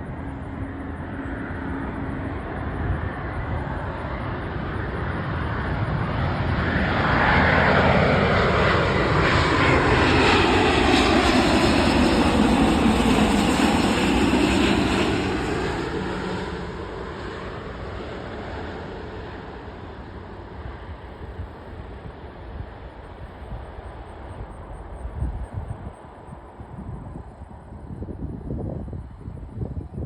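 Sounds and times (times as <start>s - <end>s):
jet airliner passing: 0.0s - 30.0s.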